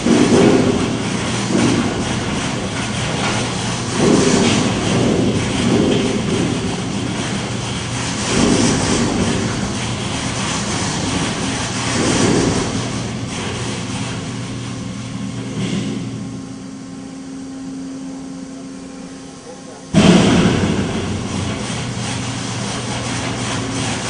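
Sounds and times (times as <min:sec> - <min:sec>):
mechanical rumble of shaking rig: 0:00.0 - 0:16.9, 0:19.4 - 0:24.0
steady low hum: 0:00.0 - 0:24.0.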